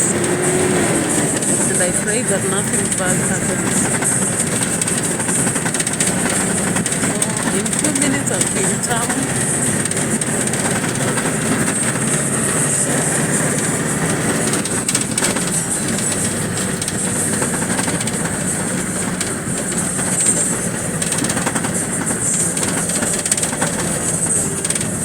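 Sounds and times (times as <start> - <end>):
road noise: 0.0 - 25.0
vehicle engine rumble: 0.0 - 25.0.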